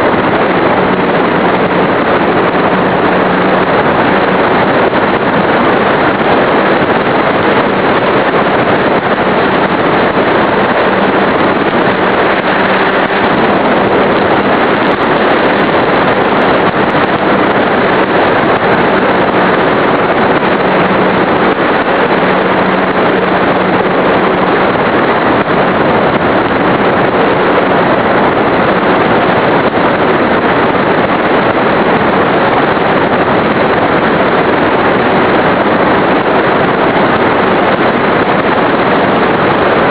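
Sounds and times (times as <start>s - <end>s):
wind and propeller noise: 0.0s - 39.9s.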